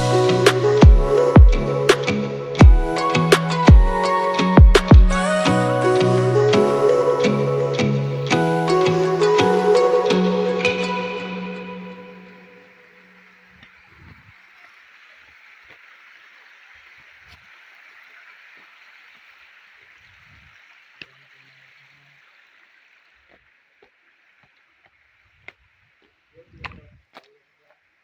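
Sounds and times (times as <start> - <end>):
stream water flowing: 0.0 - 26.4.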